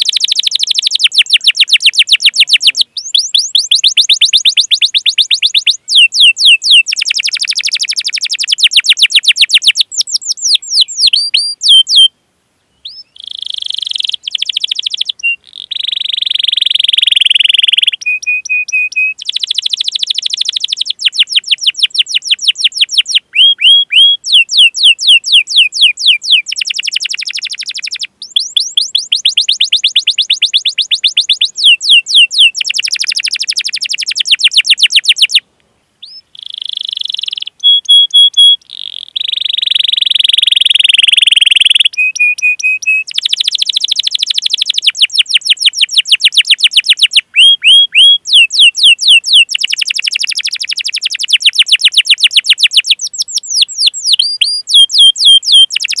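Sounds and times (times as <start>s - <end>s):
canary singing: 0.0s - 12.1s, 12.7s - 35.4s, 36.0s - 56.0s.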